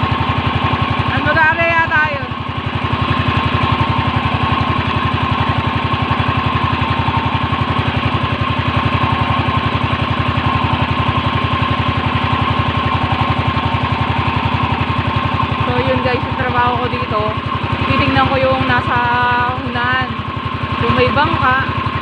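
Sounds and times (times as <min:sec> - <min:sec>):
boat engine throbbing: 0:00.0 - 0:22.0.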